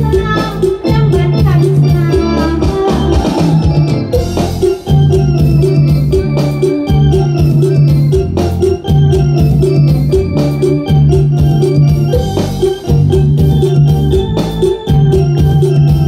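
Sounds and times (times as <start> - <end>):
bass line: 0.0 - 16.0
drum machine beat: 0.0 - 16.0
electronic organ dance music: 0.0 - 16.0.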